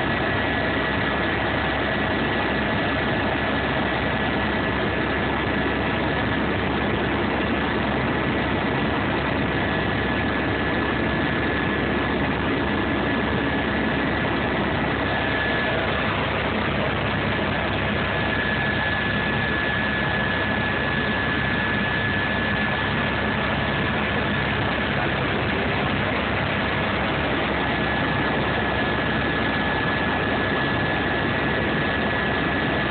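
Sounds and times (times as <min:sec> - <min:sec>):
aircraft engine drone: 0:00.0 - 0:32.9.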